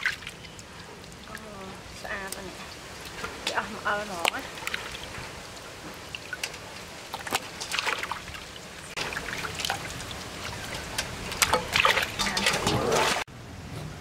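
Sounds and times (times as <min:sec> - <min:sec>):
water splashing and dribbling: 0:00.0 - 0:13.3.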